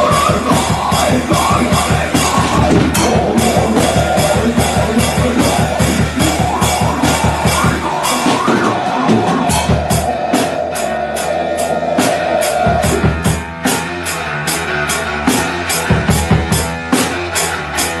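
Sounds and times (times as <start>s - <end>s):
rock music with drums: 0.0s - 18.0s.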